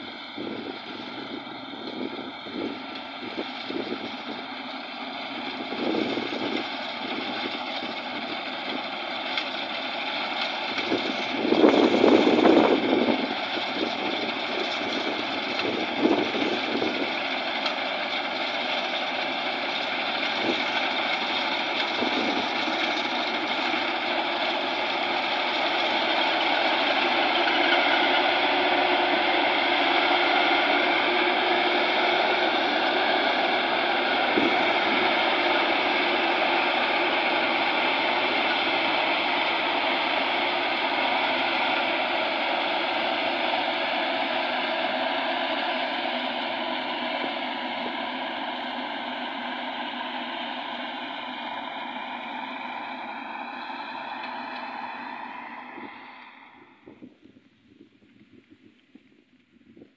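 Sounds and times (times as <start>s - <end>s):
combine harvester running: 0.0s - 59.9s.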